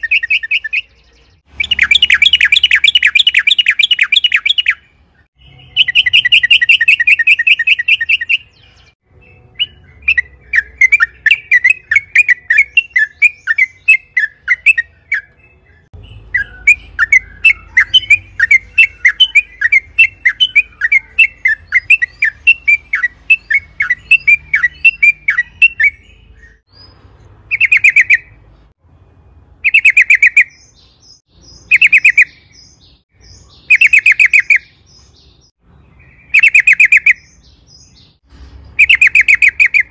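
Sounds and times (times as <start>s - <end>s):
bulbul singing: 0.0s - 28.8s, 29.6s - 39.9s.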